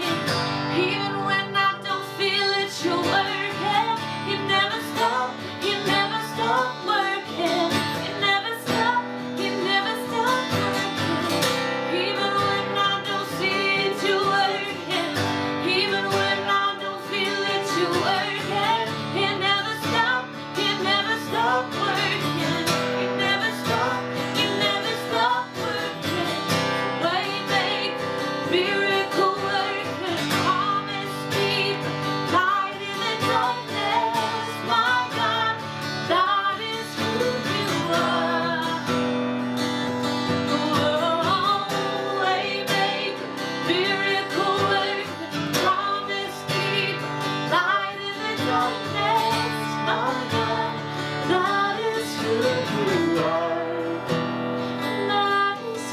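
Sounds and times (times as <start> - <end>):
person singing: 0.0 - 39.1, 40.3 - 55.9
strummed acoustic guitar: 0.0 - 55.9.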